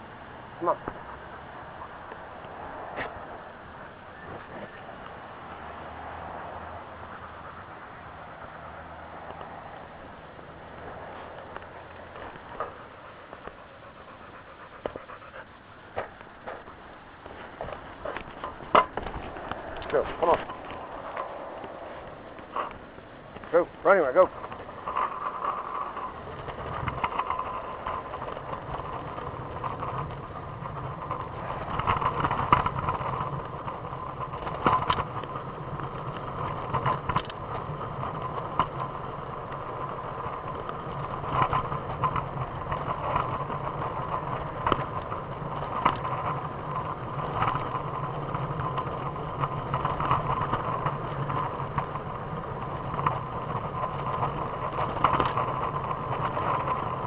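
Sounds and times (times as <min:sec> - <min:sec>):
scooter clicks and knocks: 0:00.0 - 0:57.0
small wheels rolling on pavement: 0:00.0 - 0:57.0.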